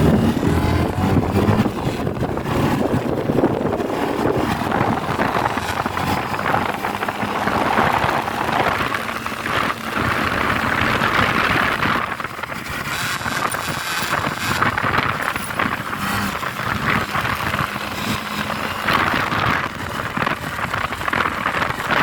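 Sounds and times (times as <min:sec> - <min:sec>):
motorcycle road noise: 0:00.0 - 0:22.0
wind rushing: 0:00.0 - 0:22.0.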